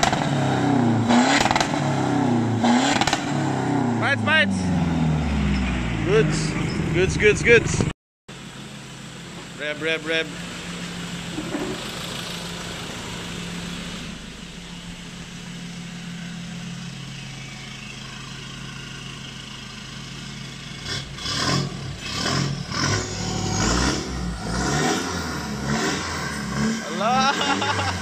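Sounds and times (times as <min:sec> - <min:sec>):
engine idling and revving: 0:00.0 - 0:28.0.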